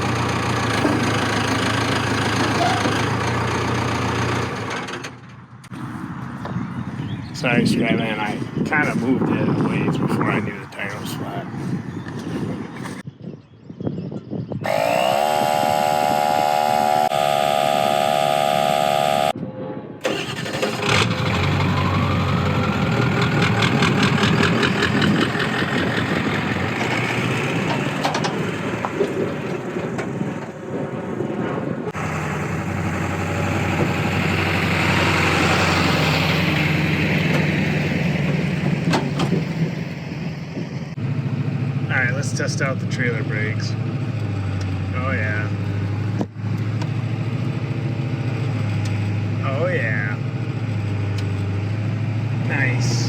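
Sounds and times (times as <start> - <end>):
truck engine starting and running: 0.0 - 13.0, 14.6 - 53.0.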